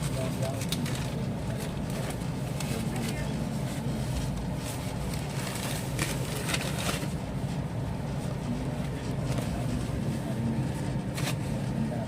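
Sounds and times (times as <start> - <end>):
train rumbling from inside coach: 0.0 - 12.0.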